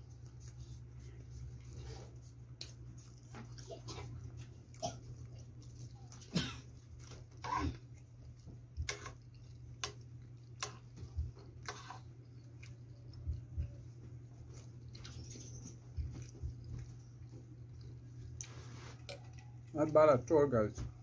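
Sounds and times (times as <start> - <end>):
person chewing: 0.0 - 19.7
steady low hum: 0.0 - 21.0.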